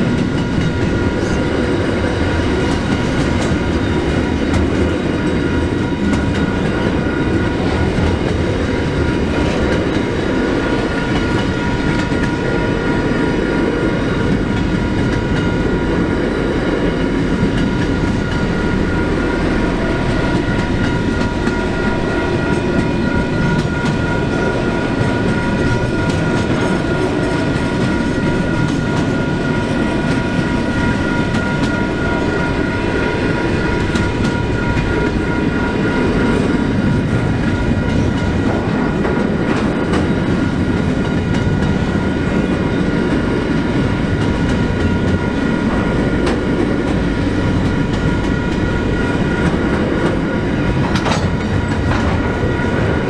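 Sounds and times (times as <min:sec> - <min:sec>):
freight train wheels clattering: 0:00.0 - 0:53.0.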